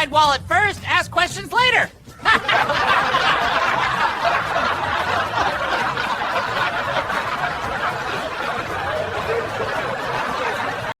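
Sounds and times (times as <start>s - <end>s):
group of people laughing: 2.2s - 11.0s.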